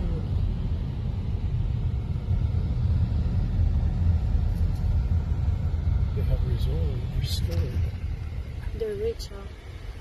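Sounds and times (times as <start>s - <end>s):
car interior road noise: 0.0s - 10.0s.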